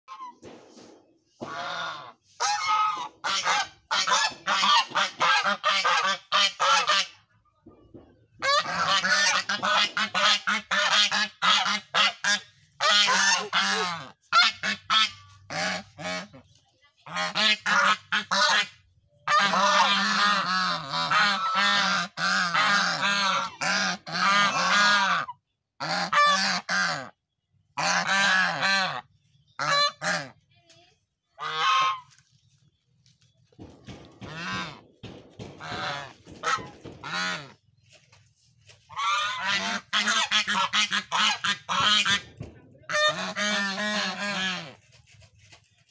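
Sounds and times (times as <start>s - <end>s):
geese honking: 1.4s - 7.2s, 8.4s - 27.2s, 27.8s - 30.4s, 31.4s - 32.3s, 34.2s - 34.8s, 35.5s - 37.6s, 38.8s - 44.8s.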